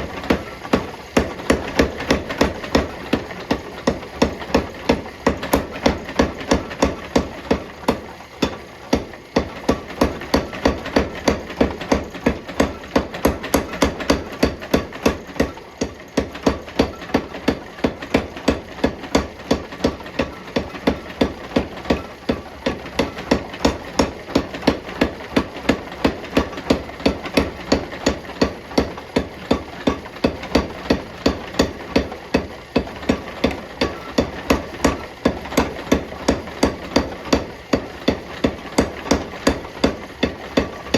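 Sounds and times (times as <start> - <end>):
hammer forging hot steel: 0.0 - 40.9.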